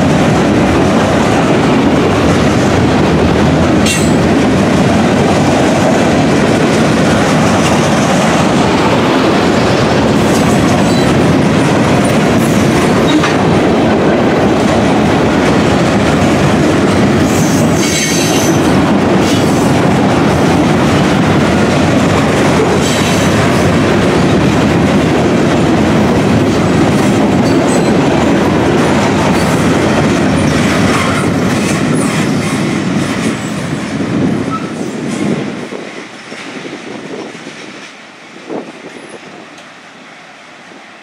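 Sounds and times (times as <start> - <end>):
freight train wheels rumbling: 0.0 - 41.0.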